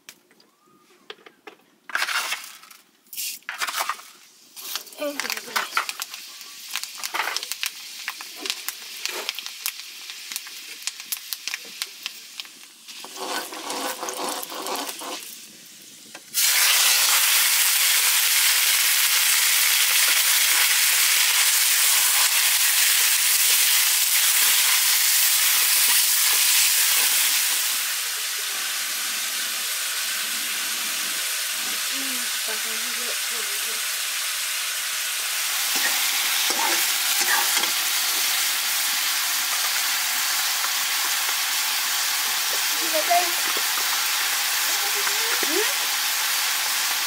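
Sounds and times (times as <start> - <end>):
food sizzling in hot oil: 1.9 - 47.0.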